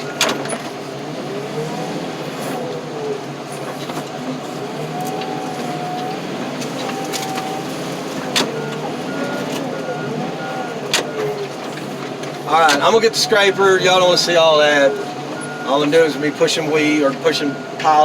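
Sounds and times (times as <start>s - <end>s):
heavy machine engine running: 0.0s - 18.0s.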